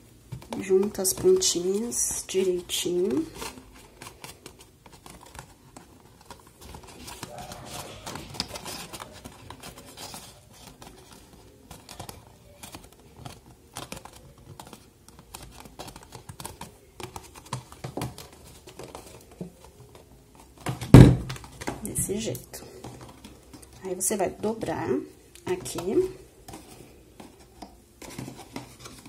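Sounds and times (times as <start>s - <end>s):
cardstock crinkling and rustling: 0.0s - 29.0s.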